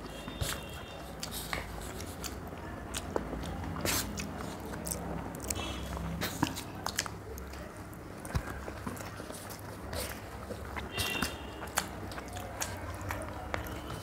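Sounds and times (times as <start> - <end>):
wet chewing and lip smacks: 0.4 - 14.0.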